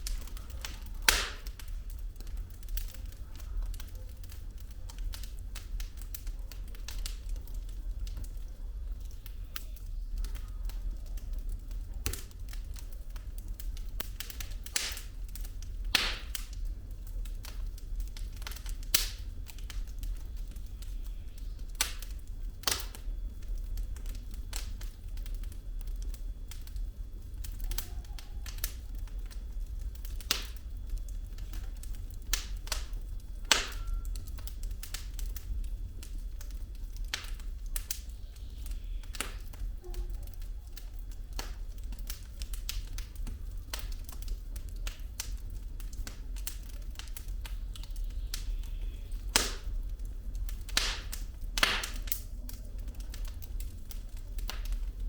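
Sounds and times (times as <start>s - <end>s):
firewood crackling and popping: 0.0s - 55.0s
low fire rumble: 0.0s - 55.0s.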